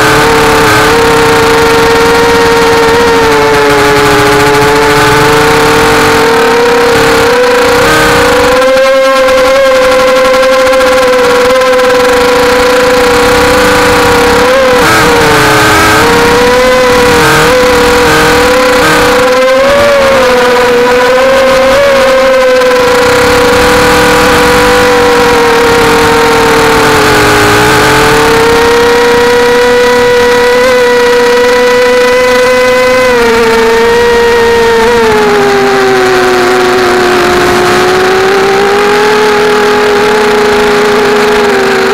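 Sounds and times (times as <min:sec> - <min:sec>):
drone motors whining: 0:00.0 - 0:41.9.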